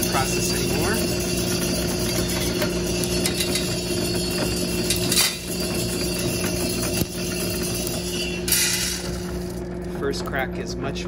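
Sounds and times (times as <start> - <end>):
coffee roaster motor hum: 0.0 - 11.0.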